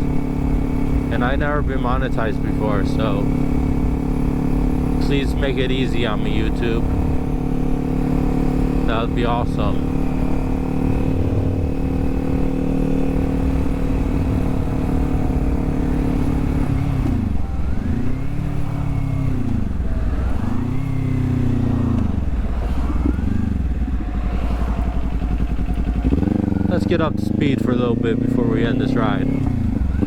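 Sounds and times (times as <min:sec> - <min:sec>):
motorcycle engine revs dipping and climbing: 0:00.0 - 0:30.0.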